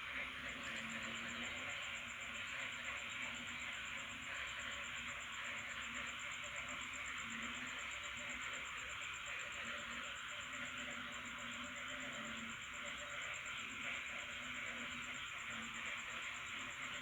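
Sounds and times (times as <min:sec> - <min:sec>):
frogs calling: 0:00.0 - 0:17.0.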